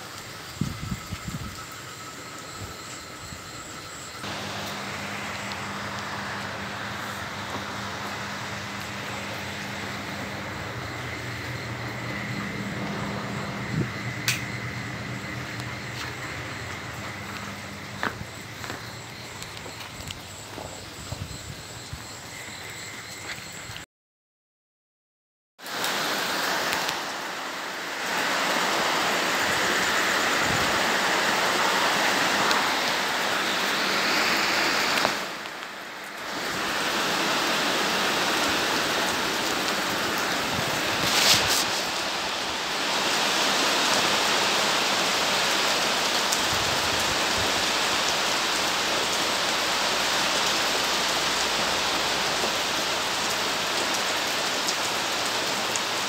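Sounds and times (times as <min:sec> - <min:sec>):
steady rain falling: 0:00.0 - 0:23.8, 0:25.6 - 0:56.0.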